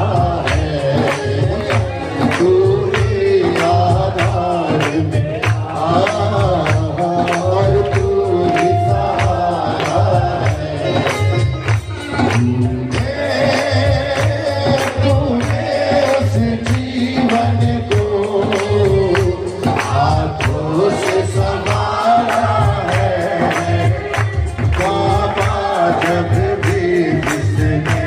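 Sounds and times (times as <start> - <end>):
jingling hand percussion: 0.0 - 28.0
man singing into a microphone: 0.0 - 28.0
people clapping: 0.0 - 28.0
steady drum beat: 0.0 - 28.0.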